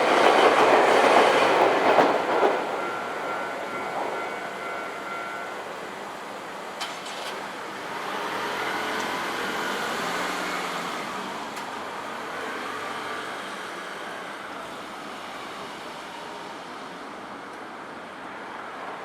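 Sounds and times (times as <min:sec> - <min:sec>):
road traffic rush: 0:00.0 - 0:19.0.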